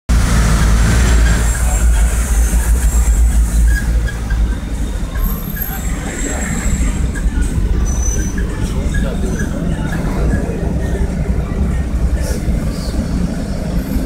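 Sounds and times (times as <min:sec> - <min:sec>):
low rumble of road traffic: 0:00.1 - 0:14.0.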